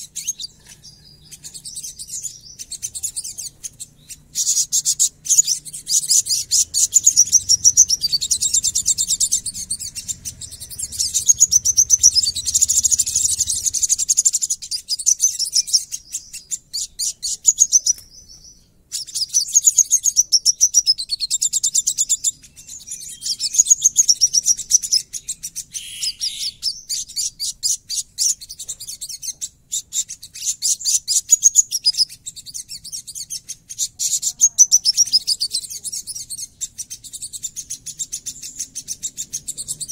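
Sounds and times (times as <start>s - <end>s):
sunbird rasping twitter: 0.0s - 39.9s.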